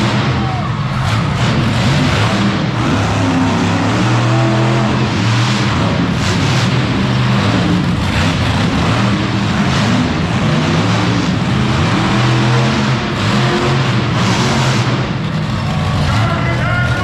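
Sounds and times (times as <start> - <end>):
truck engine revving loudly: 0.0 - 17.0.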